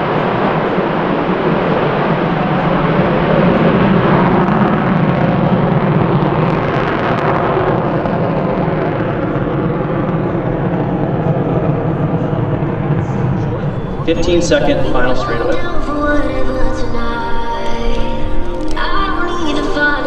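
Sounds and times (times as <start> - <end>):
jet fighter afterburner roar: 0.0 - 20.0.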